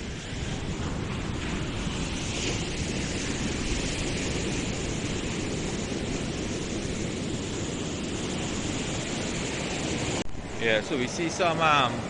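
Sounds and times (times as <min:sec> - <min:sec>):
ocean surf rushing: 0:00.0 - 0:12.0
wind rumbling on microphone: 0:00.0 - 0:12.0.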